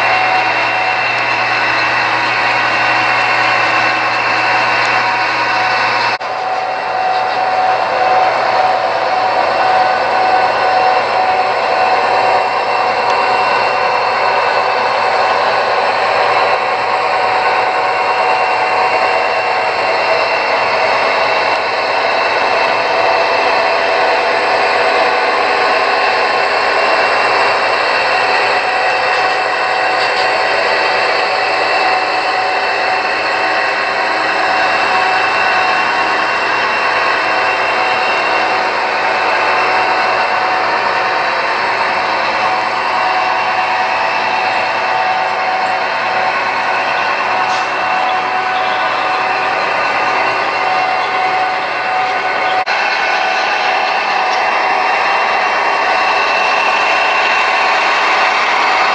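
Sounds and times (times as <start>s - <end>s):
model train whirring: 0.0s - 58.9s.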